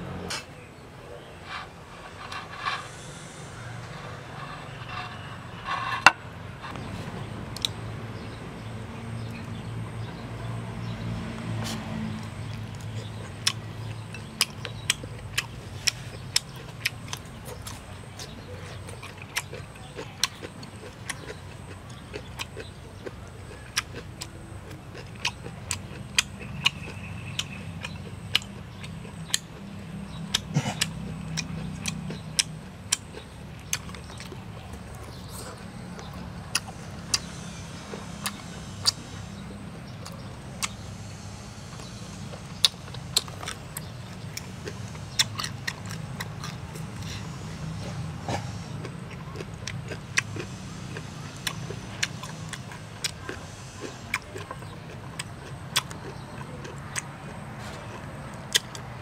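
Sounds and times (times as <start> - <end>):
steady low hum: 0.0 - 59.0
chewing and lip smacks: 10.1 - 59.0.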